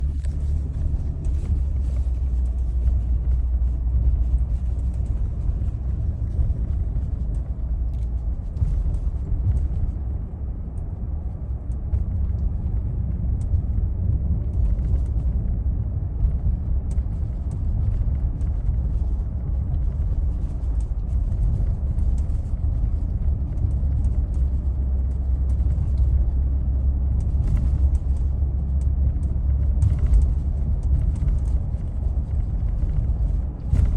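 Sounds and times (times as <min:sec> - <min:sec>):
road and engine rumble: 0:00.0 - 0:33.9.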